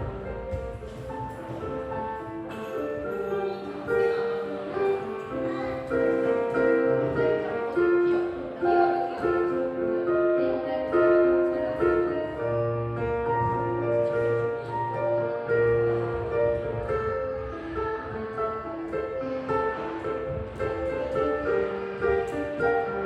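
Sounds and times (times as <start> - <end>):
piano melody over chords: 0.0 - 23.0.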